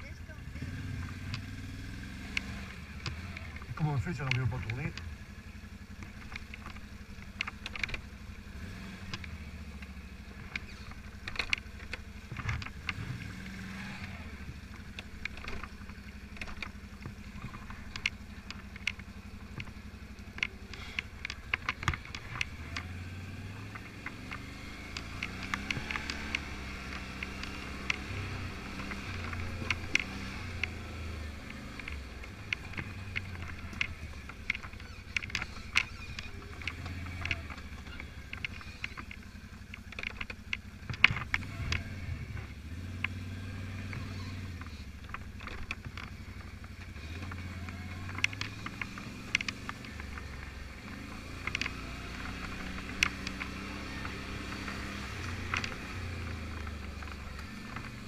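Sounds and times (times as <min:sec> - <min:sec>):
quad bike engine humming: 0:00.0 - 0:58.0.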